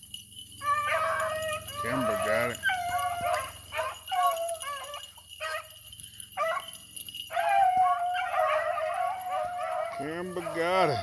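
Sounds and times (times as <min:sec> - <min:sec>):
hounds baying: 0:00.1 - 0:11.0.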